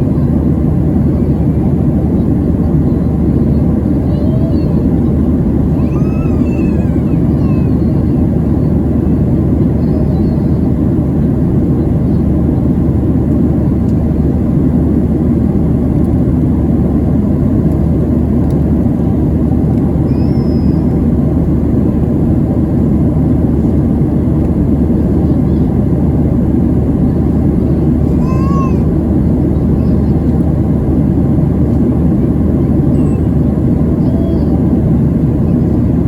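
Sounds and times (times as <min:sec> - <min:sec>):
airplane cabin rumble: 0:00.0 - 0:36.0.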